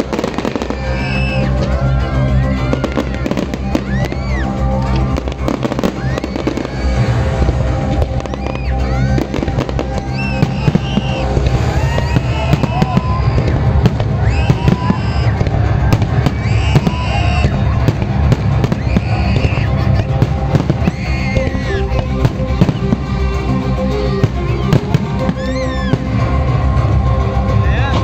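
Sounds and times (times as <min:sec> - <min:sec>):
crowd voices: 0:00.0 - 0:28.0
fireworks bangs and crackles: 0:00.0 - 0:28.0
loud music: 0:00.0 - 0:28.0.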